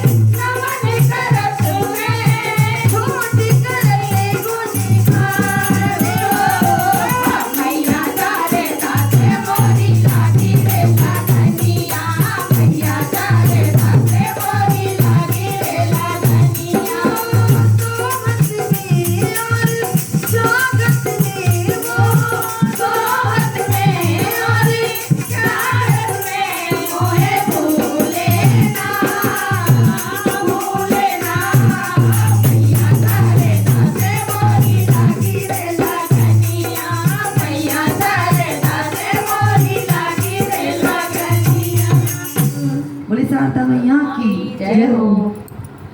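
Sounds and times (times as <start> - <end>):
jingling rattle: 0.0 - 42.6
hand drum beating: 0.0 - 42.7
group singing devotional song: 0.0 - 45.0.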